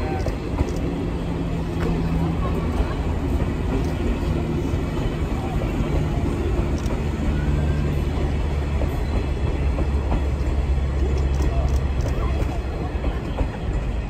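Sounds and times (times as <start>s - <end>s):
electric train hum: 0.0s - 14.0s.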